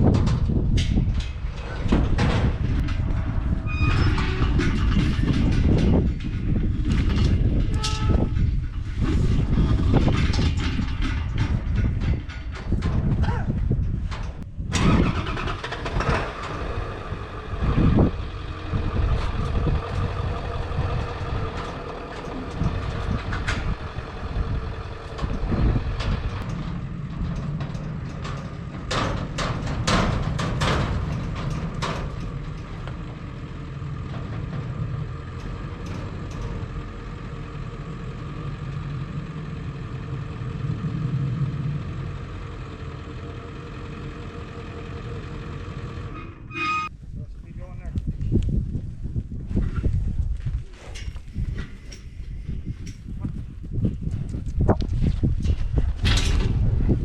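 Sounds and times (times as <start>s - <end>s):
metal clanks and knocks: 0.0s - 43.1s, 50.9s - 57.0s
truck engine running: 0.0s - 46.6s.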